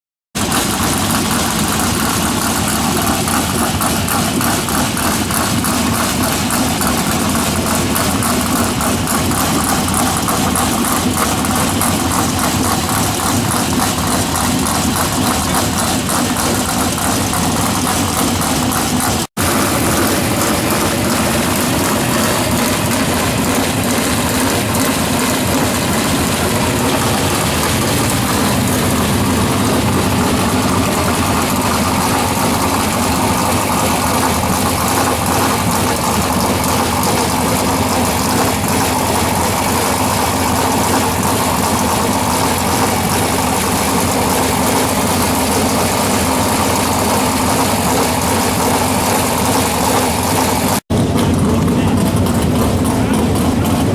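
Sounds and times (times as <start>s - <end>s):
race car engines running: 0.3s - 53.9s.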